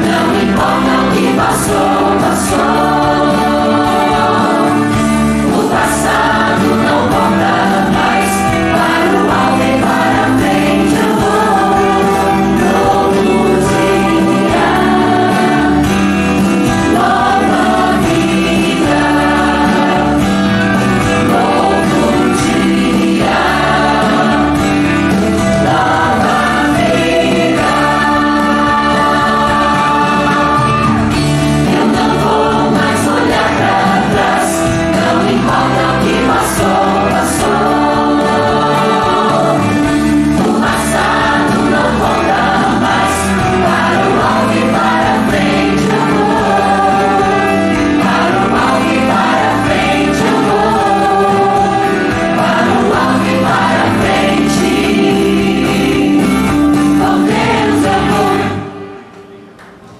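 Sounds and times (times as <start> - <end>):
mixed choir singing amplified: 0.0 - 59.6.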